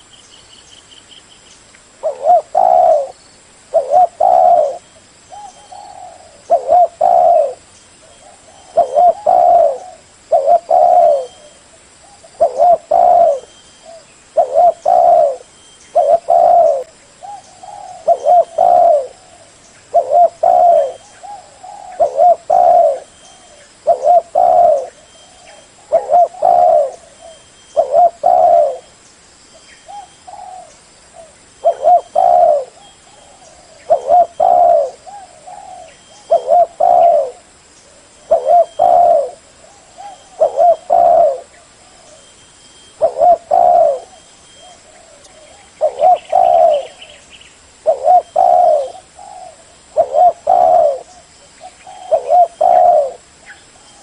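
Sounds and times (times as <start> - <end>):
dove cooing: 2.0 - 28.9, 29.8 - 47.2, 47.8 - 54.0.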